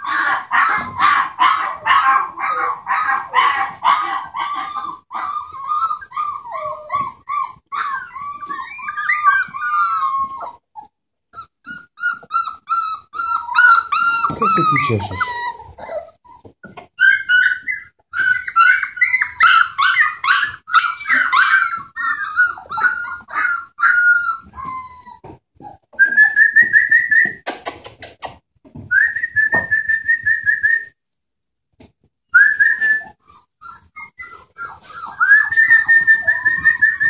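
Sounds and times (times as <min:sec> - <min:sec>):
puppies whining and yelping: 0:00.0 - 0:27.4, 0:32.4 - 0:37.0.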